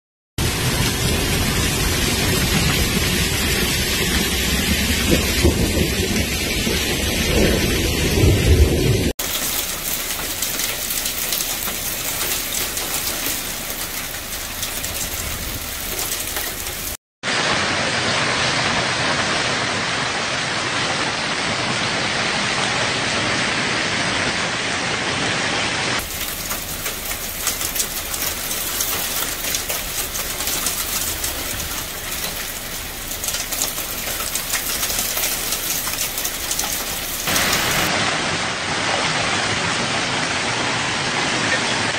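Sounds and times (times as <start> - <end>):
hail and heavy rain pelting: 0.4 - 41.9.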